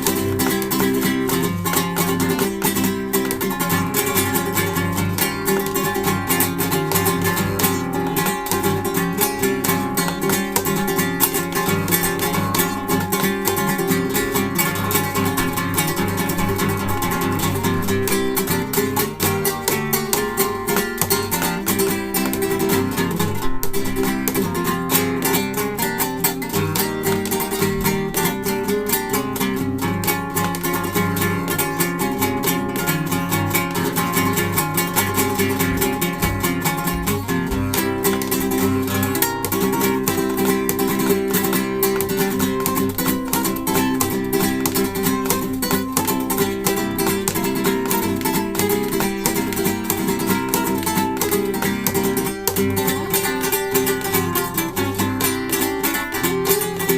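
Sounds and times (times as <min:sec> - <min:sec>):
acoustic guitar playing fast piece: 0:00.0 - 0:56.9.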